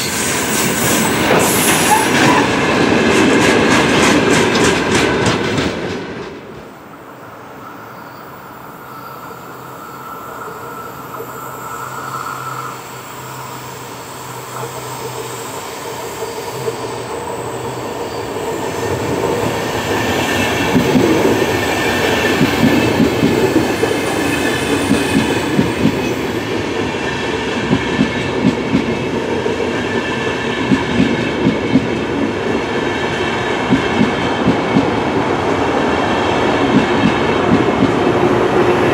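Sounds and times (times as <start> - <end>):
train wheels clickety-clack: 0.0 - 6.7, 14.4 - 38.9
freight train rumble: 0.0 - 38.9
passenger train rolling rumble: 0.0 - 38.9.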